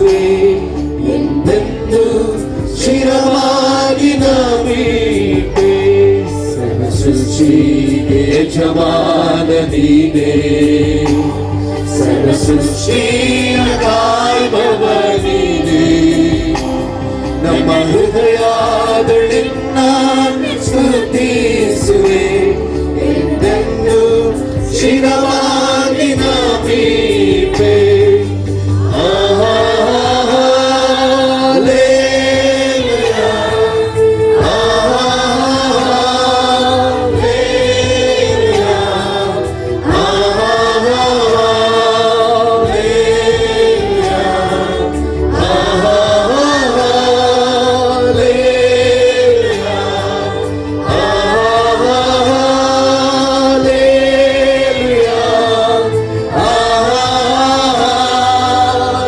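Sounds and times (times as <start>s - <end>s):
group singing worship song: 0.0s - 59.0s
instrumental backing: 0.0s - 59.0s.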